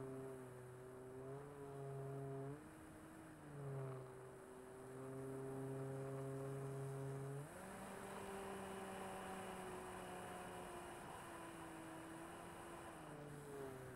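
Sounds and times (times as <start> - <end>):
model plane electric motor drone: 0.0 - 13.9.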